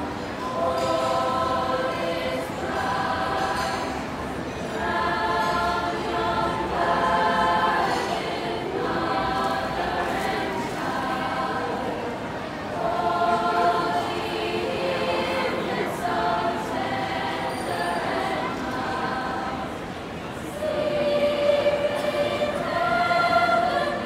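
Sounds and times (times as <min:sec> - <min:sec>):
girls' choir singing a carol: 0:00.0 - 0:24.0.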